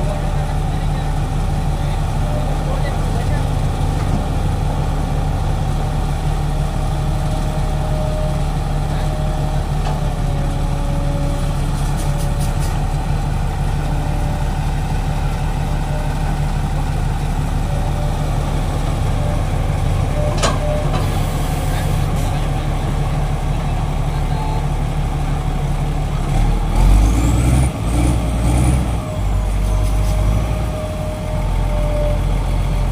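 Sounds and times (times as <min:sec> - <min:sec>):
heavy diesel engines running: 0:00.0 - 0:32.9.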